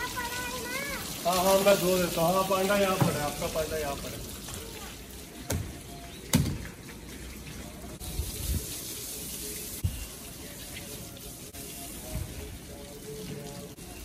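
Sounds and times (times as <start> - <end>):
hose water spraying on car: 0.0 - 14.0.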